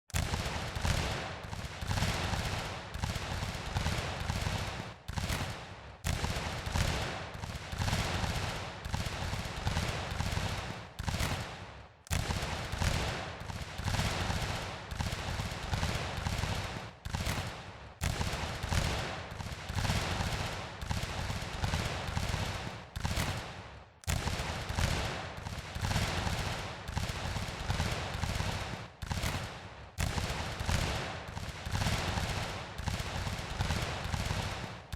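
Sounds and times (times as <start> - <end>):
musket volley crackle: 0.1 - 34.9.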